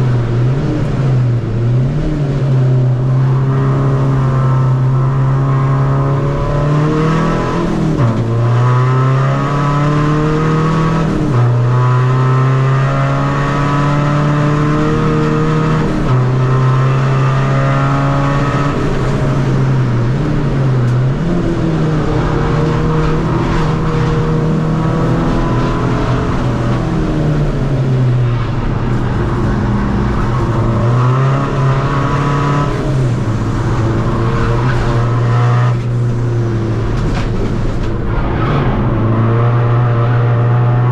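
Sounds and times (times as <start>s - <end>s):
diesel car engine racing: 0.0s - 40.9s.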